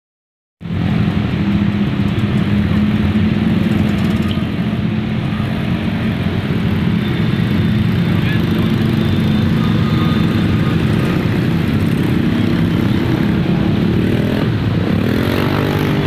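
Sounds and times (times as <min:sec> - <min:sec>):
traffic rumble: 0:00.6 - 0:16.0.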